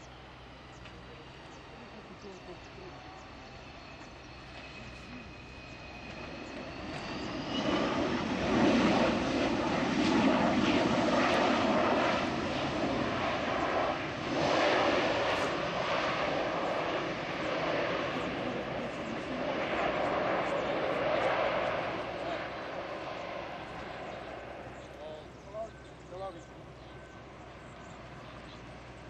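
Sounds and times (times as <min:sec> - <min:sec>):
jet engines spooling up: 0:00.0 - 0:24.8.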